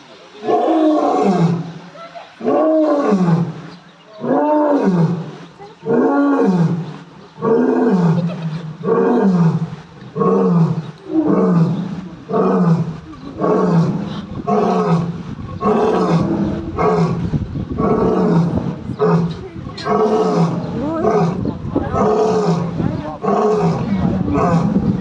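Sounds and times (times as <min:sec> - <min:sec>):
lion roaring: 0:00.4 - 0:01.7, 0:02.4 - 0:25.0.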